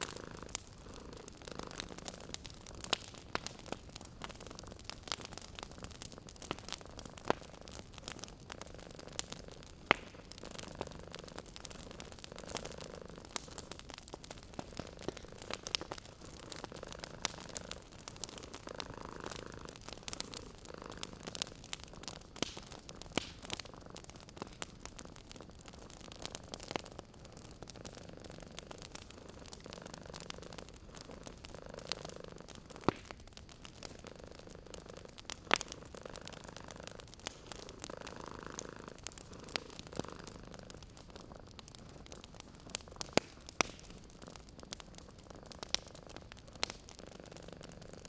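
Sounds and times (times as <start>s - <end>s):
cat purring: 0.0s - 48.0s
fireplace crackling and popping: 0.0s - 48.0s.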